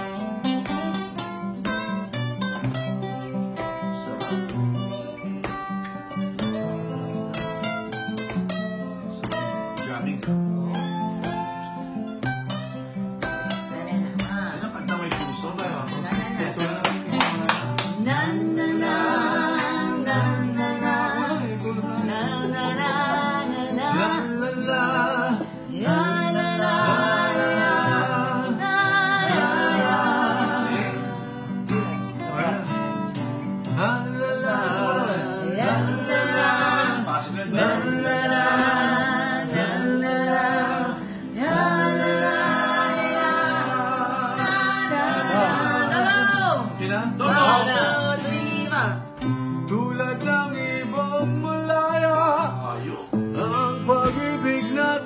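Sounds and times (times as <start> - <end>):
people singing: 0.0 - 2.9, 13.2 - 55.0
acoustic guitar strumming: 0.0 - 55.0.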